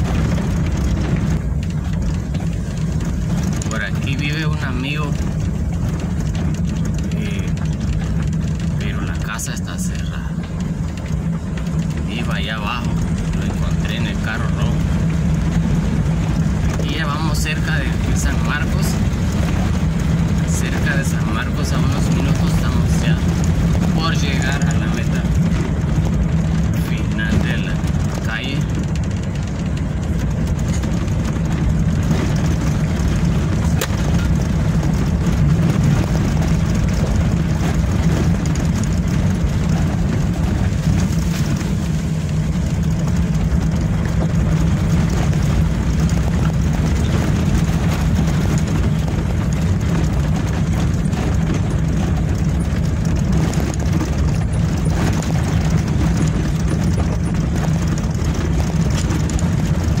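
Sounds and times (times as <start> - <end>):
faint knocks from rough road: 0.0 - 60.0
rumbling road noise: 0.0 - 60.0
vehicle engine running: 0.0 - 60.0.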